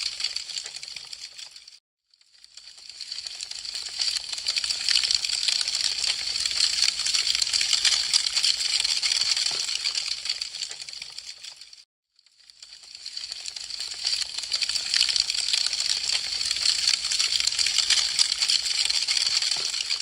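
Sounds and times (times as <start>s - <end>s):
wood fire crackling: 0.0s - 1.8s, 2.5s - 11.8s, 12.4s - 20.0s.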